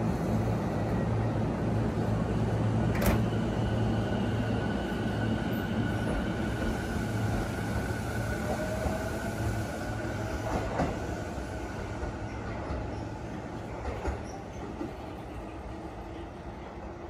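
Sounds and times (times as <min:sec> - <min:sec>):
train high whine: 0:00.0 - 0:17.0
train low hum: 0:00.0 - 0:17.0.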